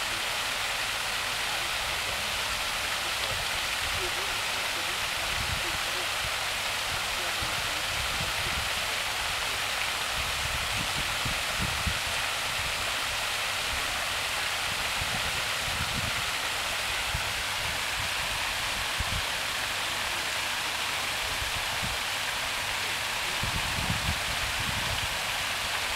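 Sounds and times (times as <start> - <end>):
fountain water splashing: 0.0 - 25.9.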